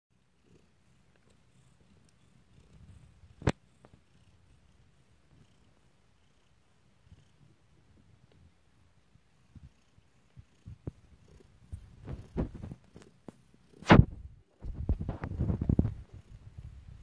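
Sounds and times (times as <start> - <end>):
cat purring: 0.2 - 17.0.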